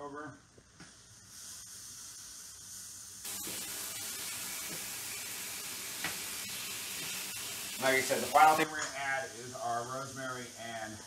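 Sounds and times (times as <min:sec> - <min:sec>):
chicken sizzling in a frying pan: 0:01.2 - 0:11.0.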